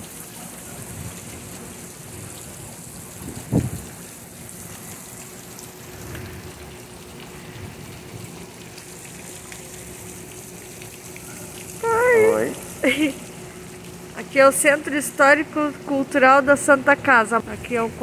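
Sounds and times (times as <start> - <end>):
fountain splashing into pond: 0.0 - 18.0.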